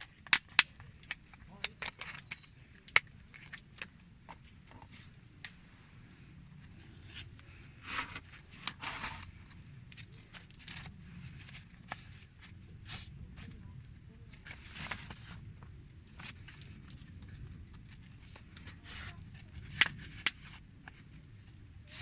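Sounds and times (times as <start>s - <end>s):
campfire crackling and popping: 0.0s - 5.6s, 6.5s - 22.0s.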